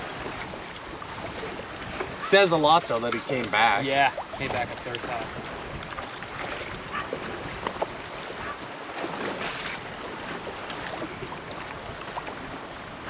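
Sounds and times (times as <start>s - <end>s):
rush of water: 0.0s - 13.0s
water lapping against boat hull: 0.0s - 13.0s
wind on microphone: 0.0s - 13.0s.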